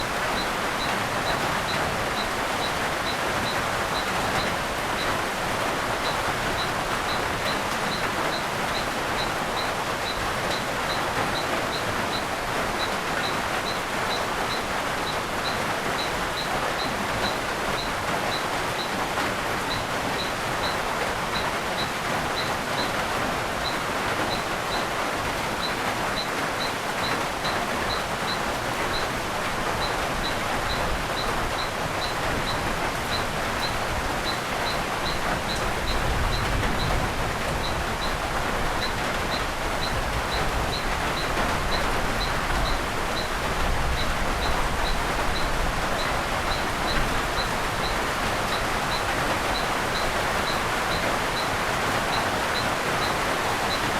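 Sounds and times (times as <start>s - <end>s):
rain pattering on foliage: 0.0s - 53.9s.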